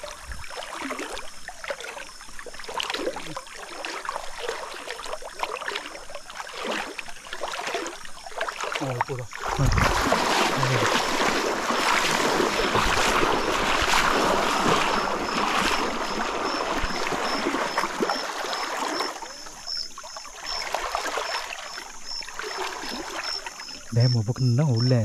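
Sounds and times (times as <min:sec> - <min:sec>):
river water splashing: 0:00.0 - 0:25.0.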